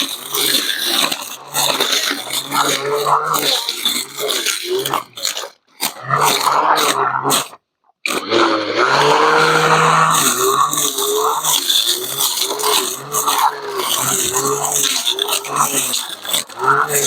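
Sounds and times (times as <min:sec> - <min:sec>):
brush cutter cutting grass: 0:00.0 - 0:17.0.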